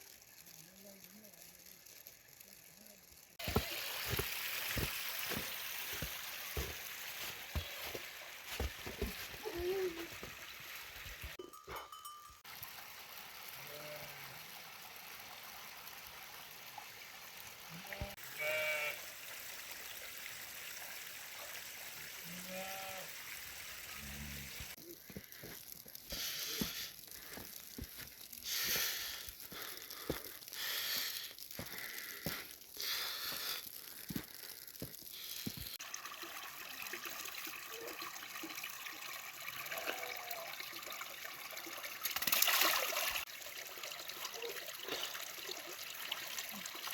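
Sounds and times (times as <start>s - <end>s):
running trickling water: 0.0s - 46.9s.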